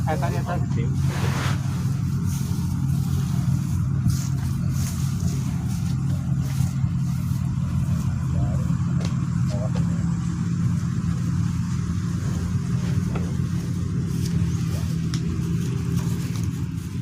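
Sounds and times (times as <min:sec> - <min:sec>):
rice thresher engine droning: 0:00.0 - 0:17.0.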